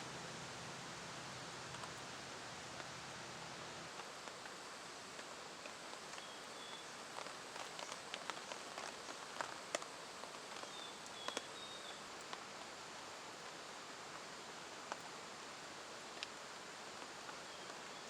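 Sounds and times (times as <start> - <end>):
faint rain hiss: 0.0 - 18.0.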